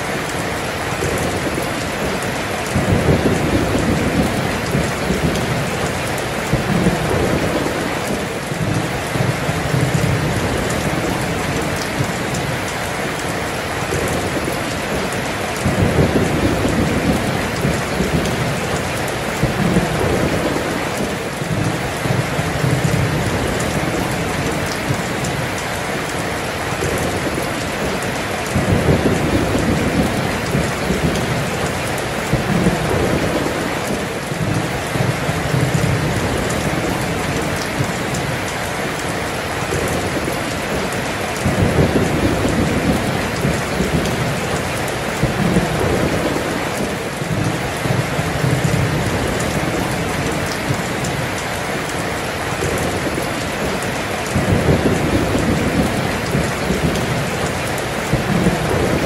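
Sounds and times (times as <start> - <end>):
heavy rain pouring: 0.0 - 59.0
rolling thunder: 1.0 - 12.6, 13.3 - 25.6, 26.7 - 38.4, 39.1 - 51.2, 52.6 - 59.0.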